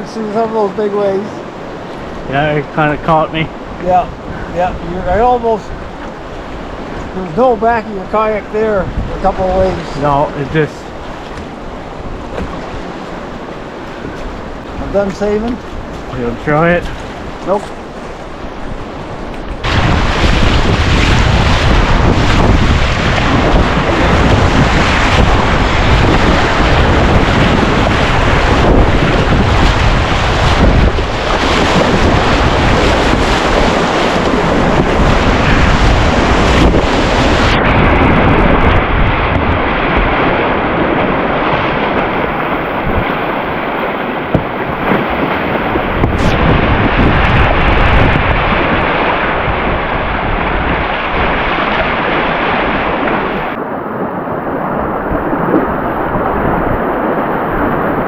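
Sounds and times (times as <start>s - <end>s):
whitewater waves rushing: 0.0s - 58.0s
wind buffeting microphone: 0.0s - 58.0s.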